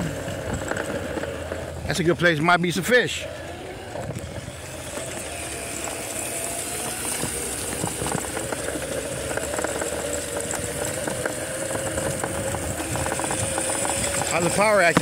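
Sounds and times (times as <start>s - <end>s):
electric motor whining: 0.0s - 15.0s
motorbike rattling and clicking: 0.0s - 15.0s.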